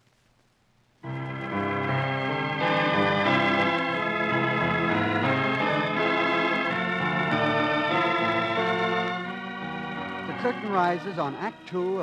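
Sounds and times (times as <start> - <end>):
organ chords: 1.0 - 12.0.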